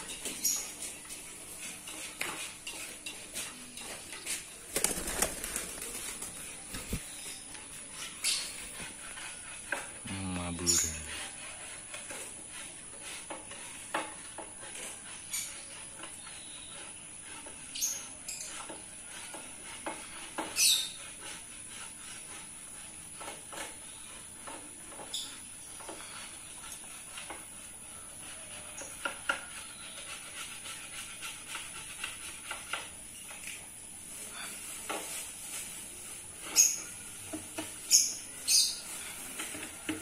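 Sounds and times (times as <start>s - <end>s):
birds hopping and pecking: 0.0s - 40.0s.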